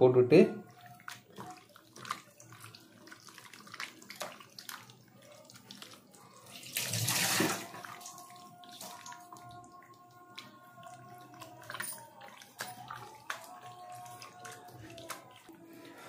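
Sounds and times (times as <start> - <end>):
hand squelching in wet marinade: 0.6 - 16.0.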